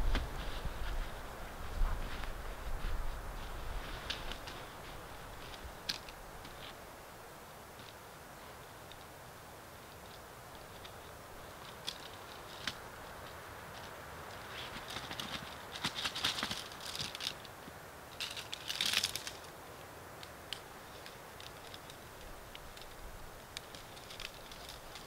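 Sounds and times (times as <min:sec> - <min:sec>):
tent poles clicking and rattling: 0:00.0 - 0:06.8, 0:09.8 - 0:19.6, 0:20.2 - 0:25.0.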